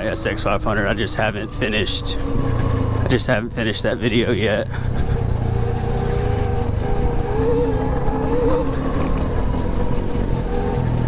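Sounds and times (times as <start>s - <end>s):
electric motor whine: 0.0s - 11.0s
wind rumble on microphone: 0.0s - 11.0s.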